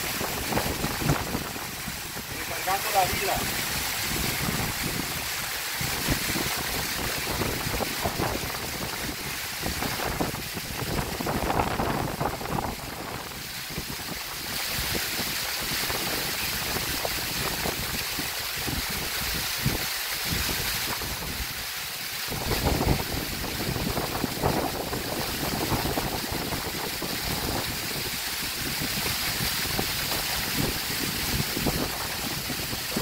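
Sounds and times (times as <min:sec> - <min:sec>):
wind buffeting microphone: 0:00.0 - 0:21.6, 0:22.3 - 0:33.0
waterfall splashing down rocks: 0:00.0 - 0:33.0.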